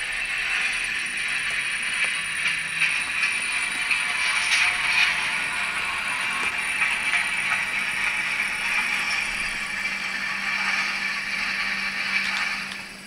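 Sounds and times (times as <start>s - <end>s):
model train motor whirring: 0.0s - 13.0s.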